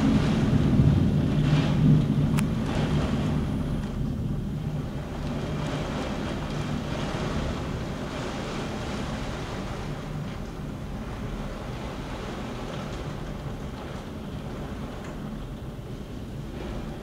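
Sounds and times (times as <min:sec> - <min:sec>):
gusty wind: 0:00.0 - 0:17.0
heavy rain: 0:00.0 - 0:17.0
thunder rumbling: 0:00.0 - 0:17.0.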